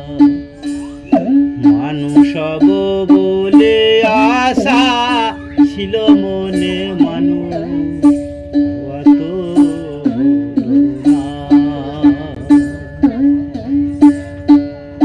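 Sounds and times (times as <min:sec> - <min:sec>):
plucked string music: 0:00.0 - 0:15.0
wavering held melody: 0:00.0 - 0:15.0.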